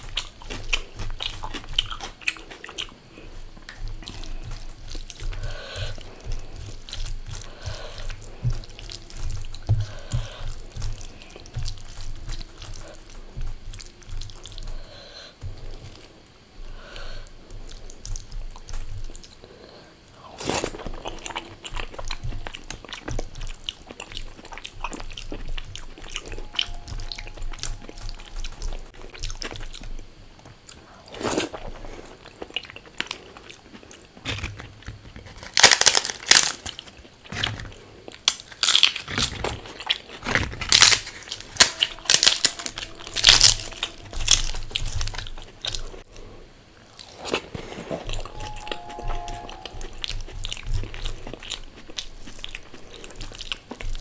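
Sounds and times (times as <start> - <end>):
crunching crispy fried food: 0.0 - 19.4, 20.3 - 46.2
quiet chewing: 0.0 - 54.0.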